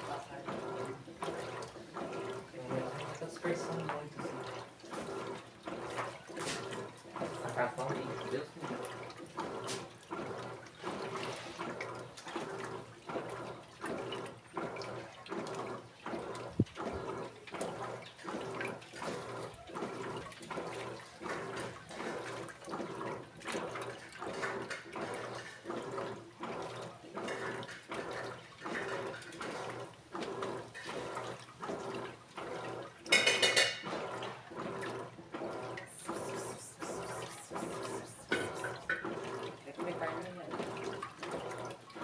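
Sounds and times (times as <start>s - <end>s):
washing machine clattering: 0.0s - 42.0s
washing machine water sloshing: 0.0s - 42.0s.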